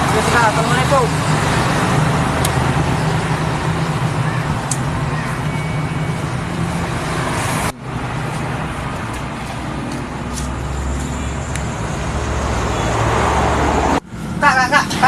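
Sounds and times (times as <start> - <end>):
vehicles passing: 0.0 - 15.0.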